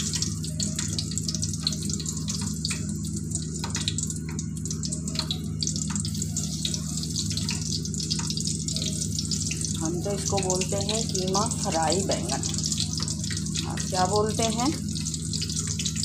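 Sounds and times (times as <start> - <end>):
slices sizzling in hot oil: 0.0 - 16.0.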